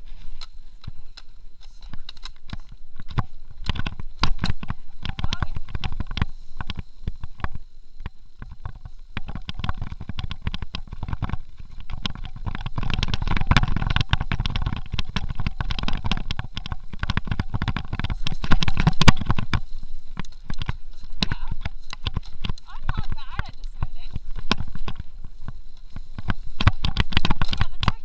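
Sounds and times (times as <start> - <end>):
bike rattling over rough dirt: 0.0 - 28.0
wind on microphone: 0.0 - 28.0.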